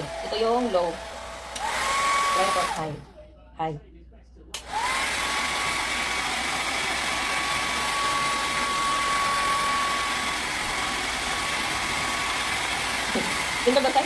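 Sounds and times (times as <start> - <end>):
hair dryer running: 0.0 - 3.1, 4.6 - 14.0.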